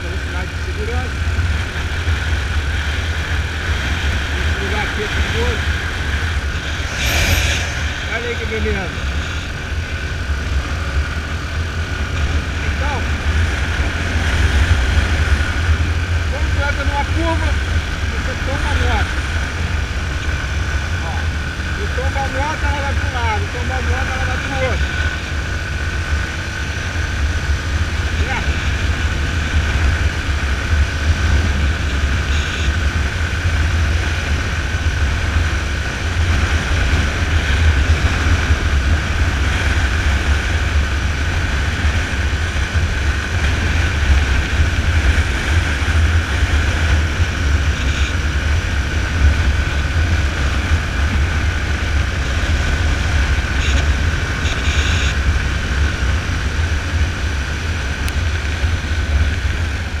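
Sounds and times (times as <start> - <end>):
motorcycle engine running: 0.0 - 60.0
wind rumble on microphone: 0.0 - 60.0.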